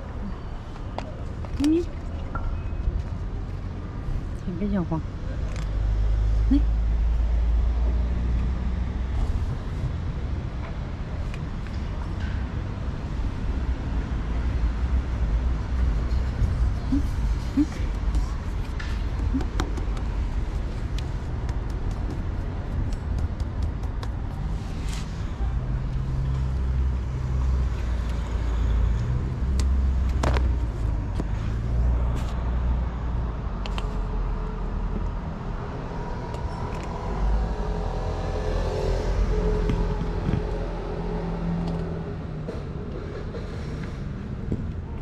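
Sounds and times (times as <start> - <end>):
motor vehicle rumbling: 0.0 - 45.0.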